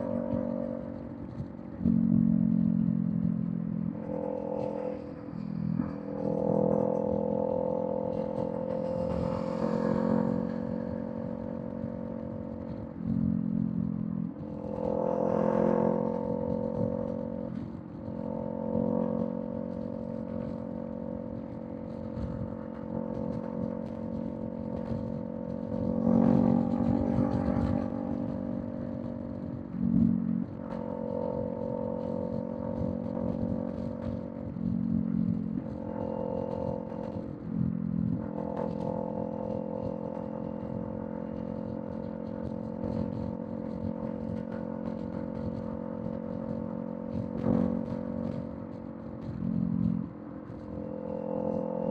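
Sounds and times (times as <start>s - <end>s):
motorcycle engine cruising: 0.0s - 51.9s.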